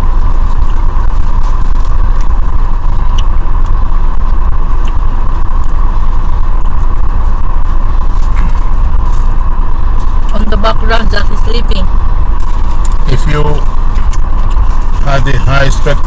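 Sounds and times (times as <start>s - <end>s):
car cabin engine rumble: 0.0s - 16.0s.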